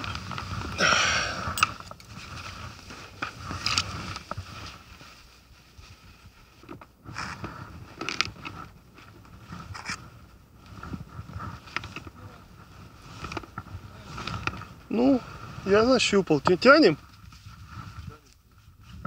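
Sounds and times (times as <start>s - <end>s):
clothing and line rustling: 0.0s - 19.0s.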